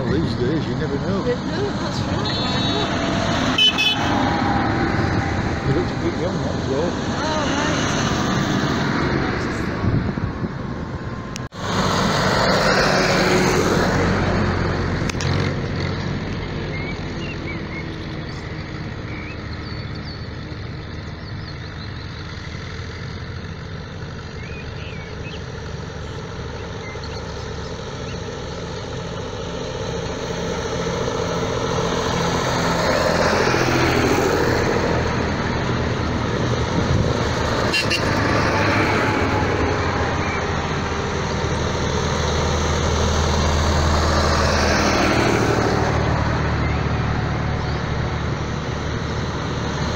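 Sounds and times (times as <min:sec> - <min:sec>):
cars passing close: 0:00.0 - 0:49.9
tractor diesel engines: 0:00.0 - 0:49.9.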